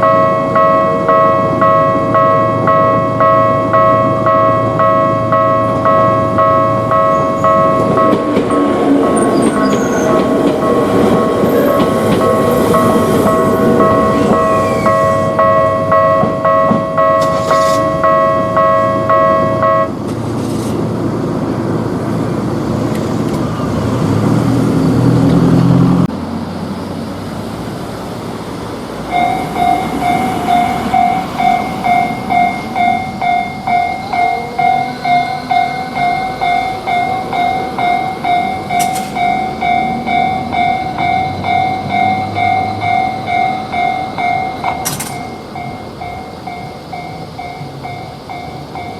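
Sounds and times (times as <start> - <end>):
level crossing warning bell: 0.0 - 24.2, 28.6 - 48.9
train running past: 0.0 - 48.9.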